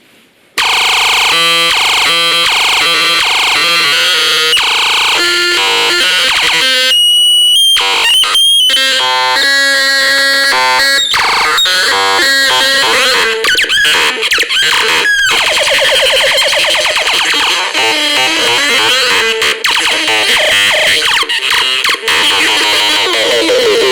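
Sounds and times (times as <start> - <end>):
buzzy electronic tones: 0.6 - 23.9.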